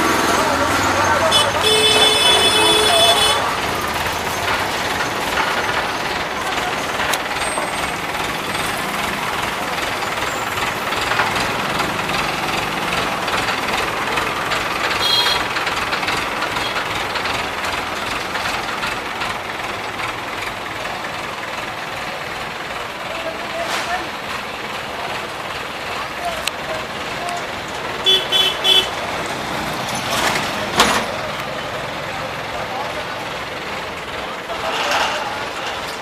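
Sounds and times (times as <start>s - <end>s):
crane diesel engine running: 0.0s - 36.0s.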